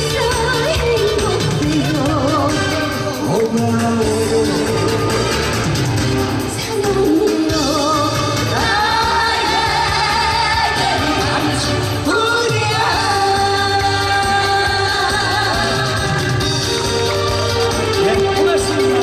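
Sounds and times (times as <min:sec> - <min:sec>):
man and woman singing duet: 0:00.0 - 0:05.5, 0:06.5 - 0:16.4
pop backing music with bass: 0:00.0 - 0:19.0.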